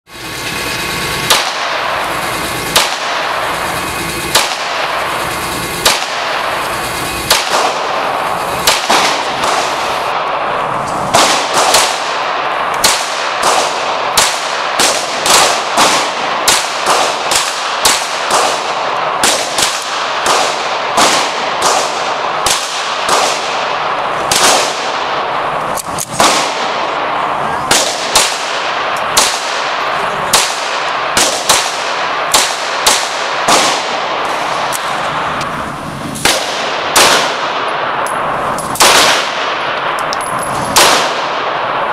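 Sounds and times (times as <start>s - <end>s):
pistol shots ringing indoors: 1.3s - 2.1s, 2.7s - 3.7s, 4.3s - 5.2s, 5.8s - 6.7s, 7.3s - 35.3s, 36.2s - 41.9s.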